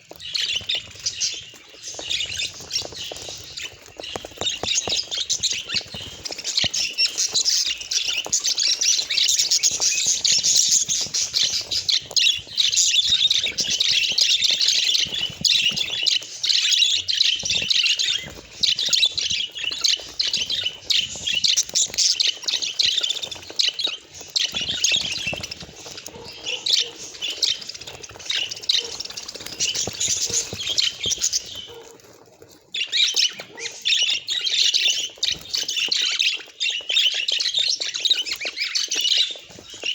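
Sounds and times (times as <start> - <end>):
budgerigars chirping: 0.1 - 32.1, 32.7 - 39.9.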